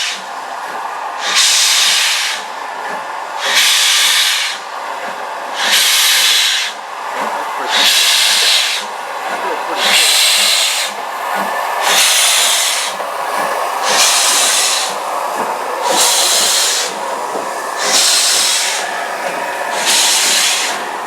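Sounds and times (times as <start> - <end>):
locomotive hissing steam bursts: 0.0 - 21.0.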